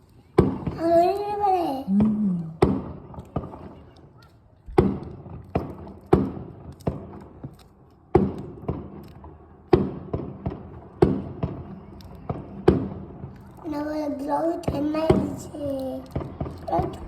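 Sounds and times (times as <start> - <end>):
fireworks bangs: 1.9 - 13.9, 14.6 - 17.0.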